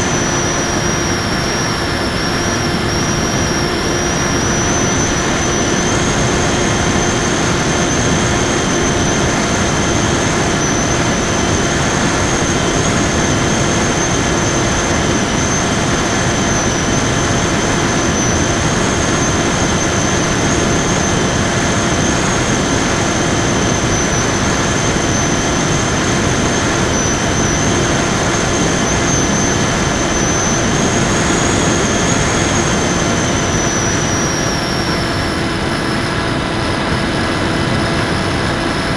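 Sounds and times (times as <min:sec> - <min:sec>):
electric motor propeller whine: 0:00.0 - 0:38.9.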